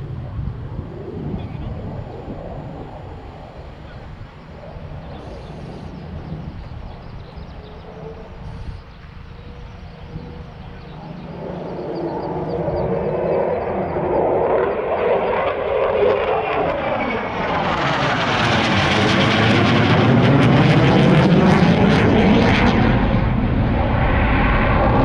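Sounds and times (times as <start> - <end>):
military aircraft passing: 0.0 - 25.0.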